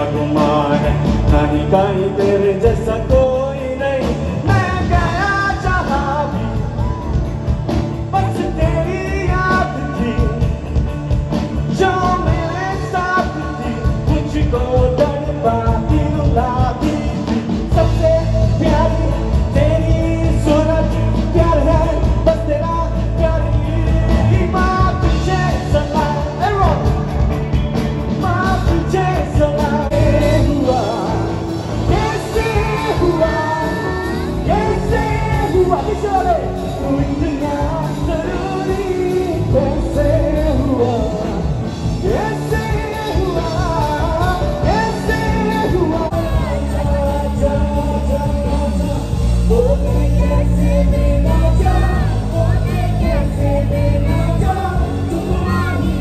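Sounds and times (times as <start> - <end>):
lead singer singing: 0.0 - 56.0
live rock band playing: 0.0 - 56.0.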